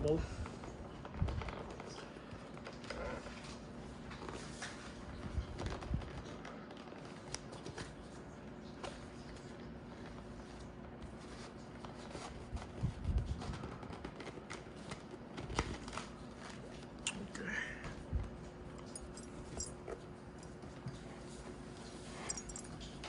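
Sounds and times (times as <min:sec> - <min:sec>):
helmet padding rustling and clicking: 0:00.4 - 0:17.0, 0:18.2 - 0:23.0.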